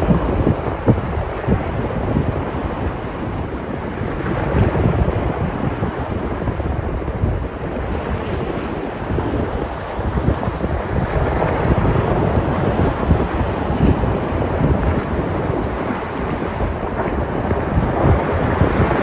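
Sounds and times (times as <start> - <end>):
sea surf breaking on shore: 0.0 - 19.0
wind buffeting microphone: 0.0 - 19.0.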